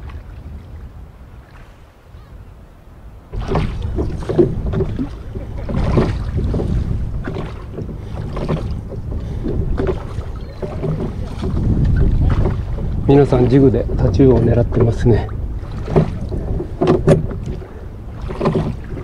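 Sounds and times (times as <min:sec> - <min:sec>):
wind buffeting microphone: 0:00.0 - 0:19.0
oars splashing and knocking: 0:03.3 - 0:19.0.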